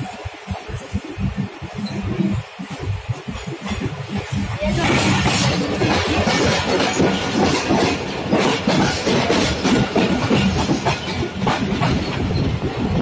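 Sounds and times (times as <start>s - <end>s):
train wheels clattering on track: 0.0s - 13.0s.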